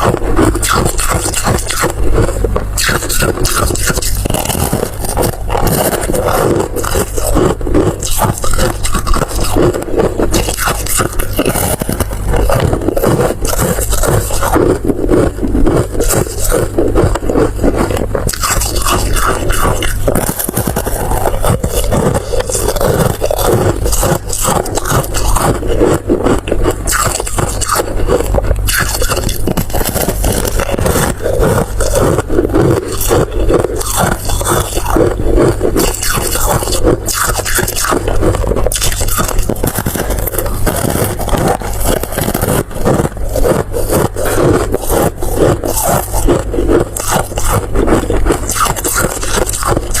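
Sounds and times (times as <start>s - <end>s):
crunching and chewing: 0.0s - 50.0s
steady low hum: 0.0s - 50.0s.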